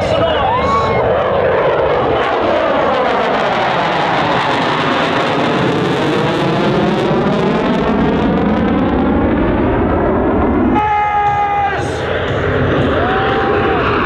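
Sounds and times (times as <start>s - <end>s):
jet engines in afterburner: 0.0s - 14.0s.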